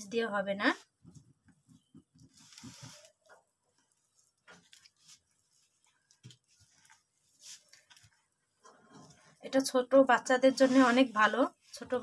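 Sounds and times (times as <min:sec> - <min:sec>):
hand squishing batter: 0:00.8 - 0:12.0.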